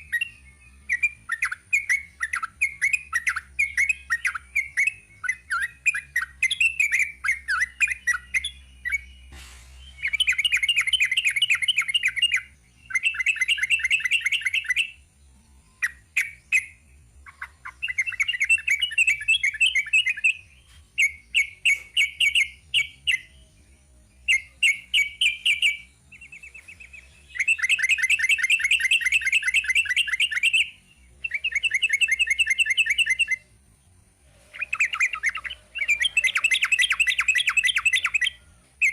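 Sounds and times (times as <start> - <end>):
bird singing rapid chattering notes: 0.0 - 38.9.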